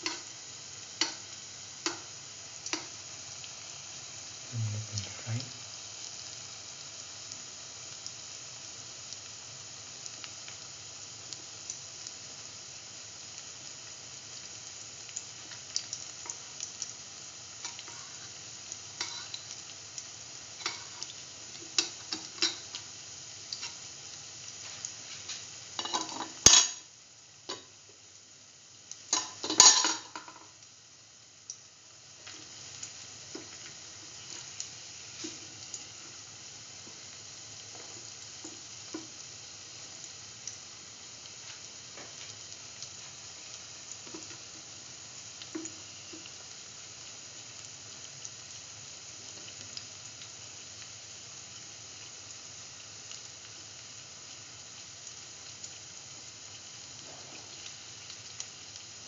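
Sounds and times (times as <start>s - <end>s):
fritters sizzling in hot oil: 0.0s - 59.0s.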